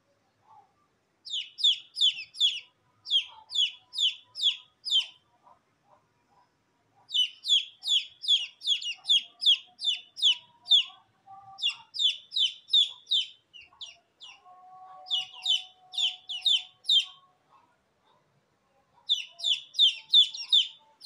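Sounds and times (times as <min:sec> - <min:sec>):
chicks peeping: 0:01.2 - 0:05.6, 0:07.0 - 0:17.6, 0:19.0 - 0:21.0.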